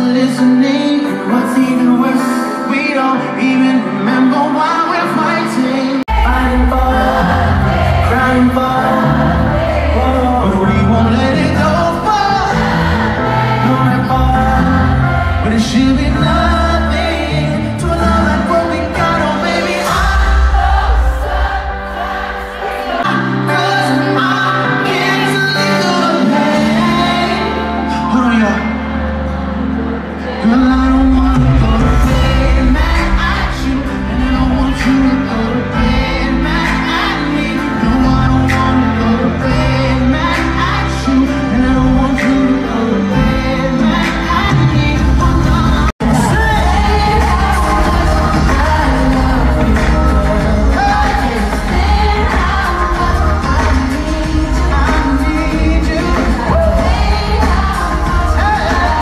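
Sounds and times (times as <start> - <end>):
person singing: 0.0 - 59.0
band with heavy bass: 6.1 - 59.0.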